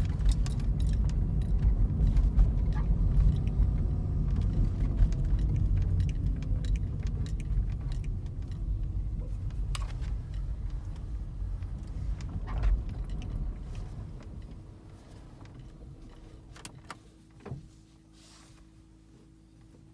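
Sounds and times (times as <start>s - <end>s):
low road rumble: 0.0s - 18.8s
faint car whine: 0.0s - 19.9s.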